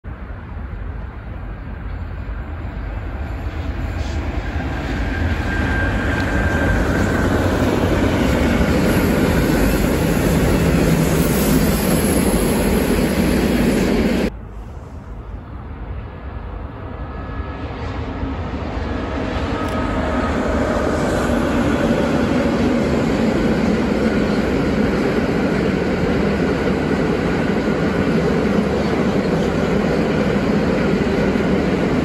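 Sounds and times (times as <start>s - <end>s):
freight train rumbling past: 0.1s - 32.0s.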